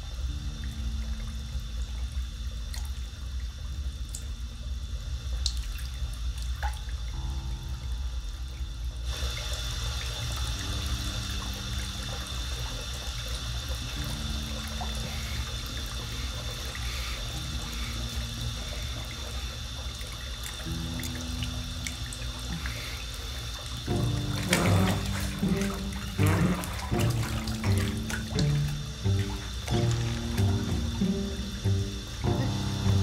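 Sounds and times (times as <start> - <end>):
tap water running into bathtub: 5.3 - 33.0.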